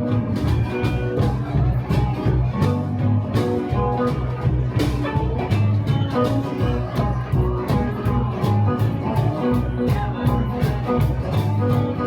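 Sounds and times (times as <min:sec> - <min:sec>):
band playing a song: 0:00.0 - 0:12.0.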